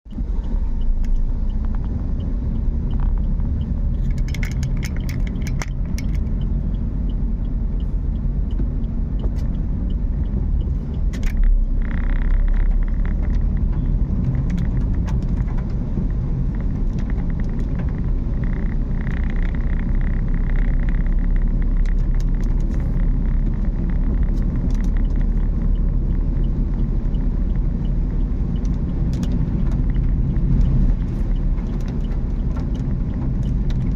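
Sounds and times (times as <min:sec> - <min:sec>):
car road and engine rumble: 0:00.0 - 0:33.9
sharp clicks: 0:00.1 - 0:33.9.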